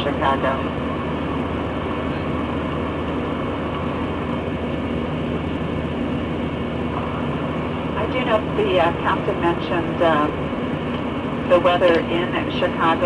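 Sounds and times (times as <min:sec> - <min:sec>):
constant low hum: 0:00.0 - 0:13.0
jet airliner cabin noise: 0:00.0 - 0:13.0.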